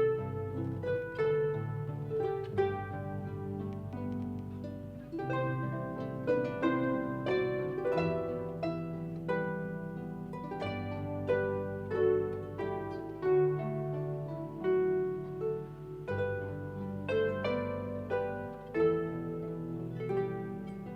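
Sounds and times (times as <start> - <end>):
harp music: 0.0 - 20.9.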